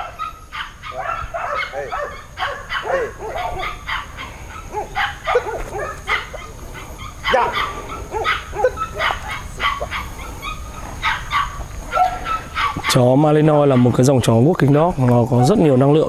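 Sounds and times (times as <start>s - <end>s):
dog yipping and whining: 0.0s - 12.9s.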